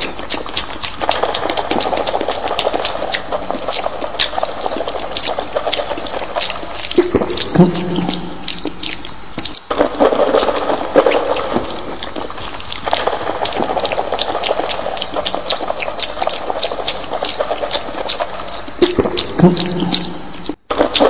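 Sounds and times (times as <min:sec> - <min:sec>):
chewing and mouth noises: 0:00.0 - 0:21.0.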